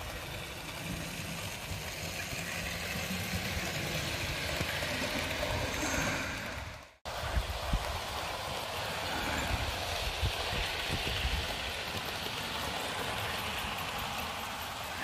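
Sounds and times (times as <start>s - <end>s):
model train wheels rumbling on rails: 0.0s - 15.0s.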